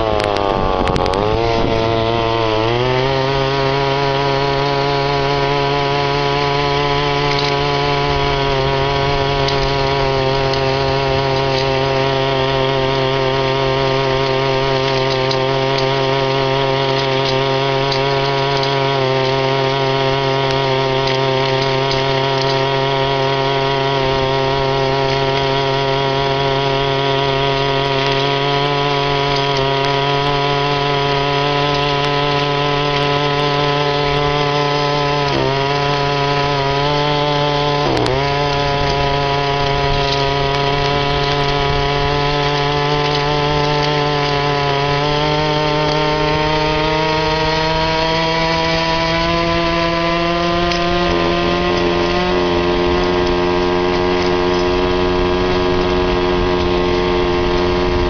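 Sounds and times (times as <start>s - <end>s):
two-stroke engine at high revs: 0.0s - 58.0s.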